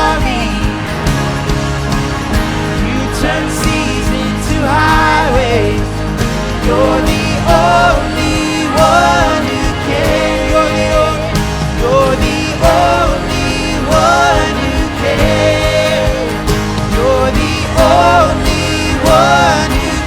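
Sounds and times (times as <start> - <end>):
worship band music: 0.0 - 20.0.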